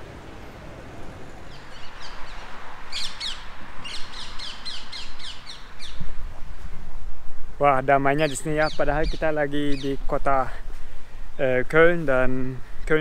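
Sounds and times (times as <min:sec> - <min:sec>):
faint background noise: 0:00.0 - 0:13.0
songbird singing: 0:00.7 - 0:06.7, 0:07.4 - 0:13.0.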